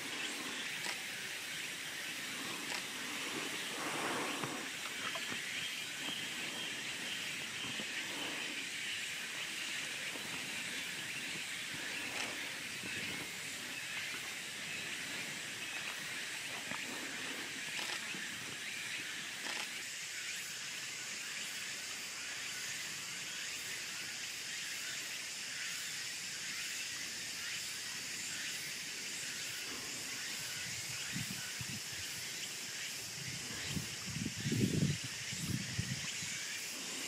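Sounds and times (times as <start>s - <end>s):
high-pitched outdoor hiss: 0.0s - 37.0s.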